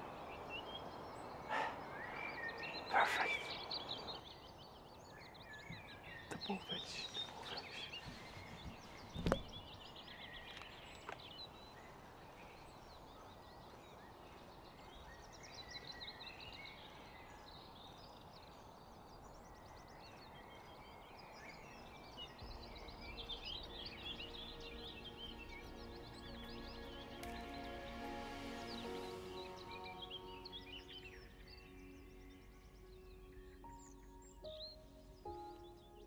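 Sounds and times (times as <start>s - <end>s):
songbirds chirping: 0.0s - 36.0s.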